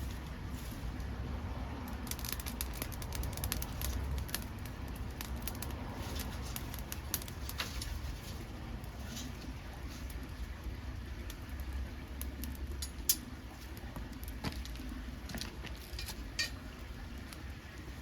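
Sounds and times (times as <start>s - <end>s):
low steady rumble: 0.0s - 18.0s
wood crackling and popping: 0.0s - 18.0s.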